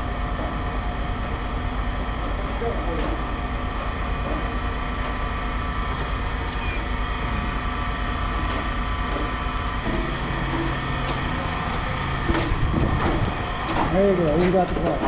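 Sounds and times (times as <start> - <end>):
mechanical drone hum: 0.0 - 15.0.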